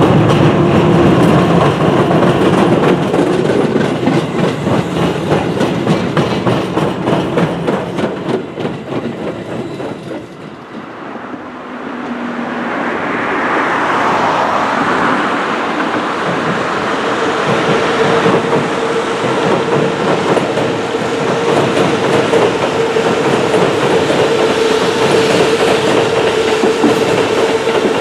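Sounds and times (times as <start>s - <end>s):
train wheels clickety-clack: 0.0s - 11.4s, 14.0s - 28.0s
distant train rumble: 0.0s - 28.0s
train rumble on bridge: 0.0s - 28.0s.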